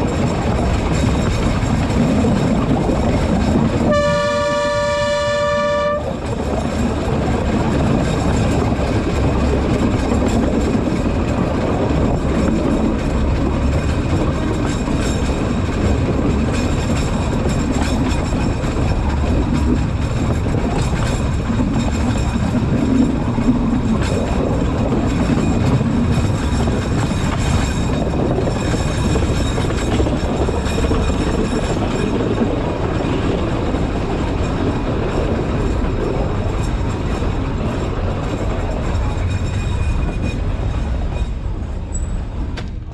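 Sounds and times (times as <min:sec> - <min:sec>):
train wheels rumbling: 0:00.0 - 0:42.9.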